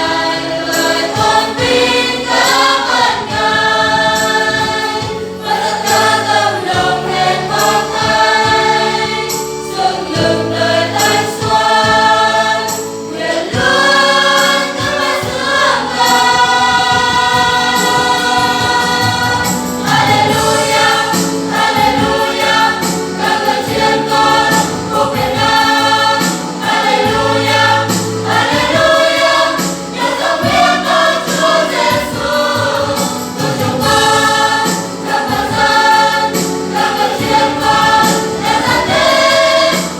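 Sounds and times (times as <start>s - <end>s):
choir singing a hymn: 0.0s - 39.9s
instrumental backing: 0.0s - 39.9s.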